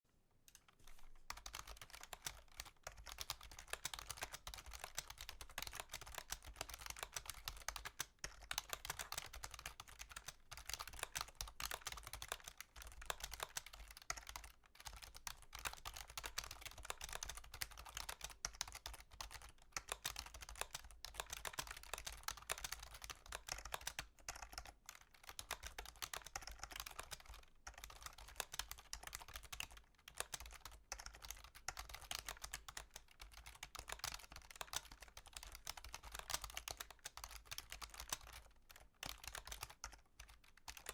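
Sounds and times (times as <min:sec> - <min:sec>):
typing on computer keyboard: 0:00.5 - 0:40.9.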